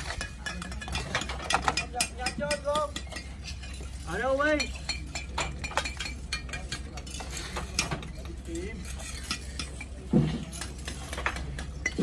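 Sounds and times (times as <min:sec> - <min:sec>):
bricks clinking and knocking: 0:00.0 - 0:12.0.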